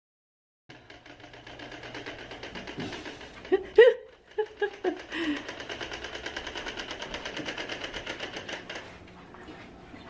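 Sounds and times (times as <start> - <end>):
toy wagon wheels rattling: 0.7 - 8.9.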